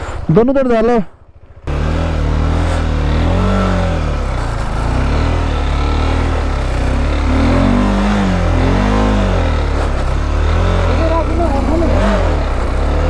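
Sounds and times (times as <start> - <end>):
motorcycle engine revving: 1.2 - 13.0.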